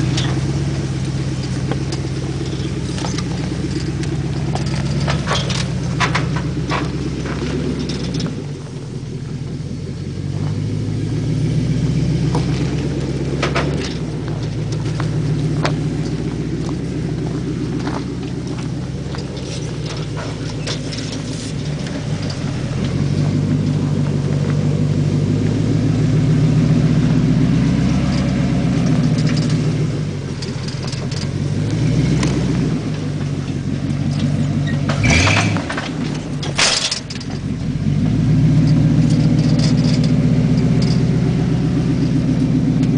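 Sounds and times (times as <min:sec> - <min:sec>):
knocks and clunks: 0:00.0 - 0:08.6, 0:12.2 - 0:25.8, 0:26.6 - 0:42.9
engine running under load: 0:00.0 - 0:42.9.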